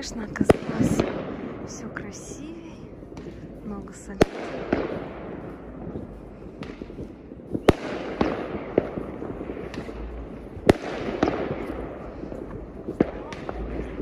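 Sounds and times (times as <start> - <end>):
distant fireworks crackle: 0.0 - 14.0
fireworks banging: 0.0 - 14.0.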